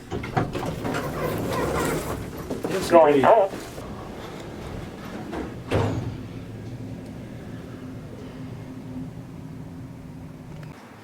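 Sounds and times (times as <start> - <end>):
elevator car humming: 0.0 - 10.8.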